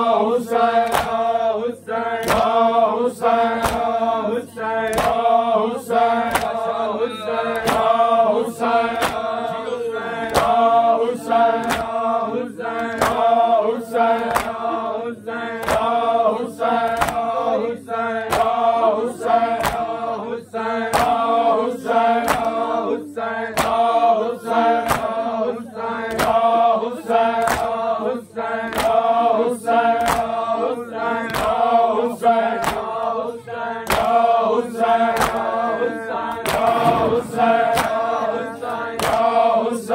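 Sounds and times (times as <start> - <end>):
men chanting a lament: 0.0 - 39.9
rhythmic chest-beating slaps: 0.0 - 39.9.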